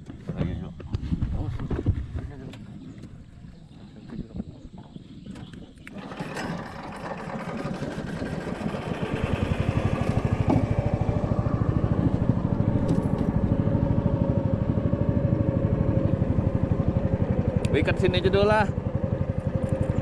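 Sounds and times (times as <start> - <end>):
small boat engine putter: 3.9 - 20.0.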